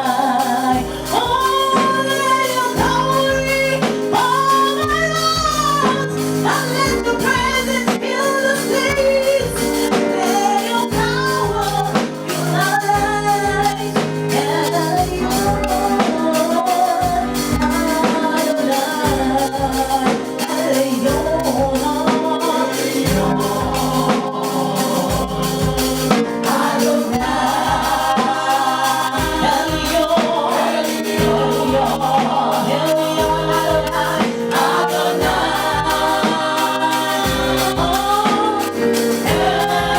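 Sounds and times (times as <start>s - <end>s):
band with steady beat: 0.0s - 39.9s
choir and lead singer: 0.0s - 39.9s.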